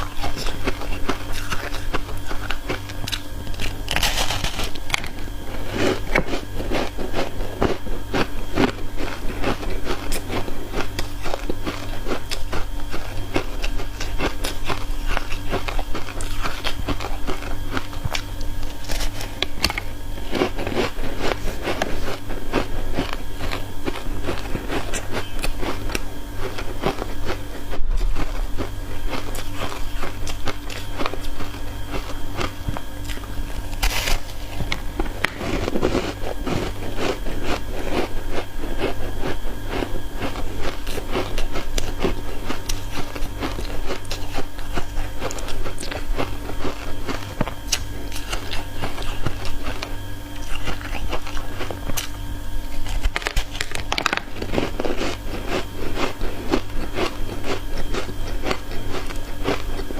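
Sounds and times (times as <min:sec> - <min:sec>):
crunching and biting ice: 0:00.0 - 0:59.9
steady low hum: 0:00.0 - 0:59.9.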